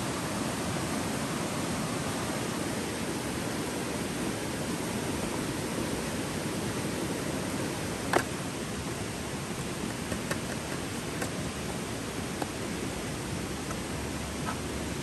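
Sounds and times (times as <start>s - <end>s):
river flowing over stones: 0.0s - 15.0s.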